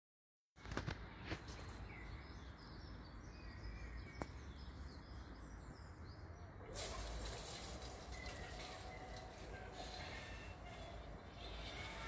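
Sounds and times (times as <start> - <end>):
songbirds chirping: 0.6 - 12.0.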